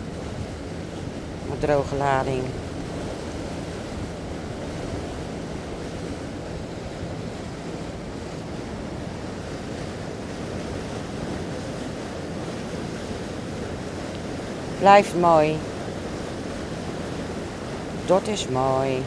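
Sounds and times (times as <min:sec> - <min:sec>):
low engine hum: 0:00.0 - 0:19.0
wind and water rushing: 0:00.0 - 0:19.0.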